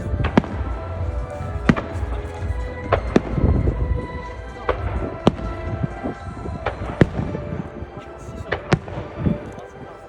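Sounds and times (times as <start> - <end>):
low rumble: 0.0 - 9.4
fireworks bursting with sharp bangs: 0.0 - 10.0
show music playing: 0.0 - 10.0.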